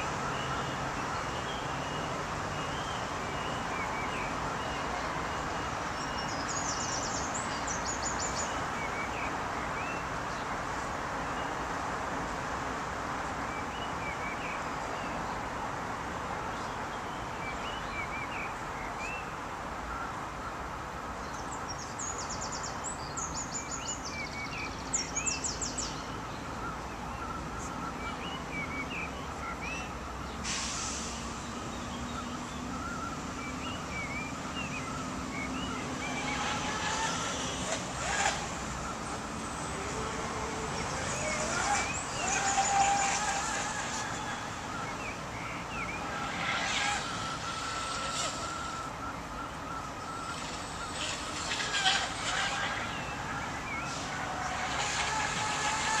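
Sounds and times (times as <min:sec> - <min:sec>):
birds chirping: 0:00.0 - 0:56.0
steady background hiss: 0:00.0 - 0:56.0.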